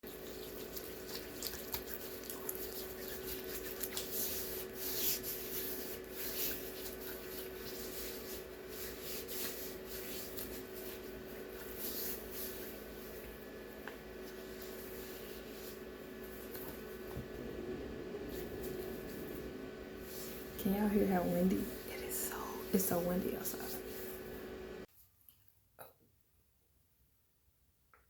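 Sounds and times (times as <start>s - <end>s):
brush scratching over skin: 0.0s - 17.1s, 18.3s - 24.5s
faint steady hum: 0.0s - 24.9s.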